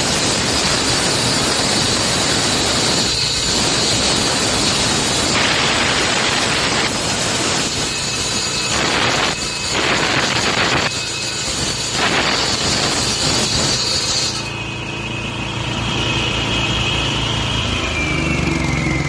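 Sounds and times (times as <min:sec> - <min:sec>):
saw blade grinding concrete: 0:00.0 - 0:16.9
saw engine whining: 0:00.0 - 0:19.0.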